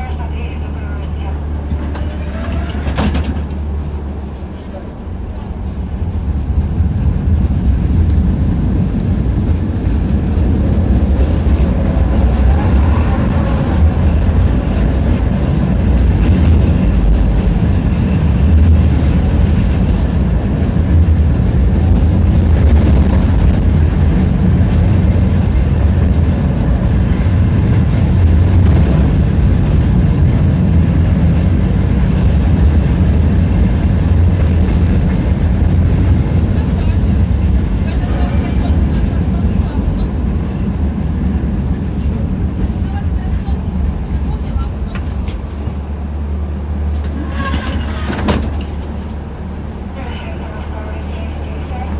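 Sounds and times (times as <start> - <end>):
tram wheels rumbling on rails: 0.0 - 51.9.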